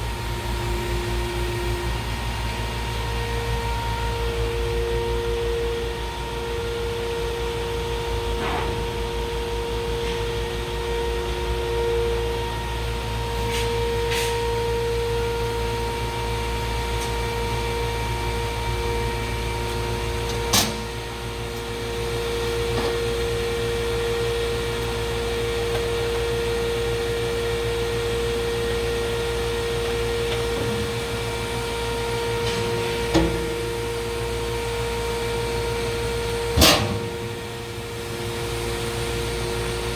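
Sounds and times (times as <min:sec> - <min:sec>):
hydraulic pump humming and whining: 0:00.0 - 0:39.9.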